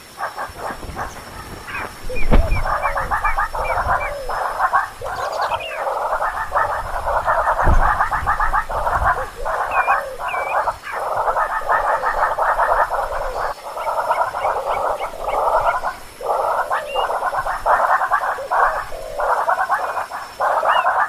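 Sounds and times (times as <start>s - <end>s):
animal calls in pulsing trills: 0.0s - 21.0s.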